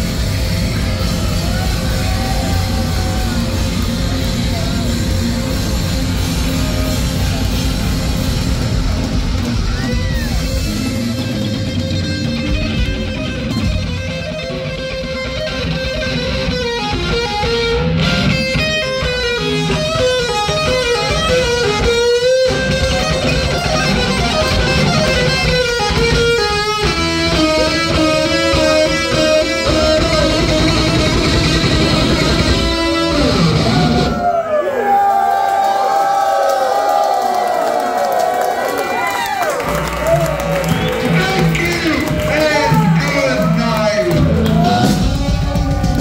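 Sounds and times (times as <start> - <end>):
distorted electric guitar solo: 0.0 - 34.4, 39.5 - 46.0
heavy metal band playing live: 0.0 - 34.4, 39.6 - 46.0.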